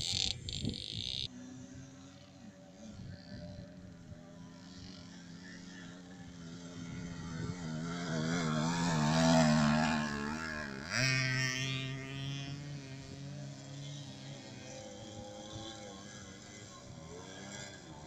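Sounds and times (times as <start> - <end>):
motorcycle engine passing by: 0.0 - 18.0.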